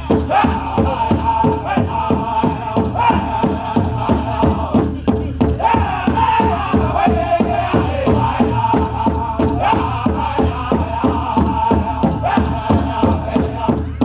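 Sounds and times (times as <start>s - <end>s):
big drum fast beat: 0.0s - 14.0s
men singing in chanting voices: 0.0s - 14.0s.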